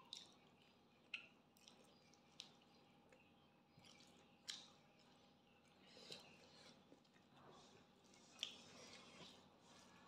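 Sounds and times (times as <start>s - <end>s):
mouth clicks and chewing smacks: 0.0s - 9.5s.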